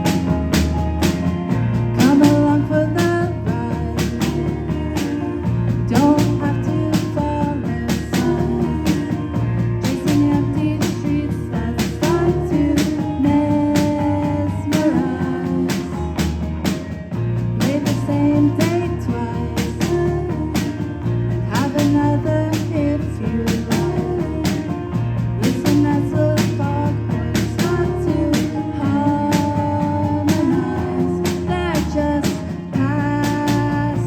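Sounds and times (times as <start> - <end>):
rock band playing: 0.0 - 34.0
person singing: 2.0 - 16.4, 17.6 - 34.0.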